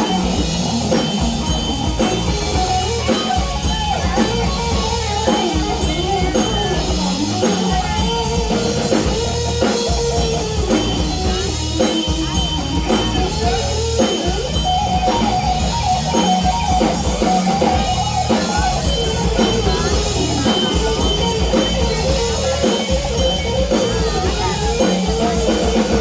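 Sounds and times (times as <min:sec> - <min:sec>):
drum kit beat: 0:00.0 - 0:26.0
guitar melody: 0:00.0 - 0:26.0.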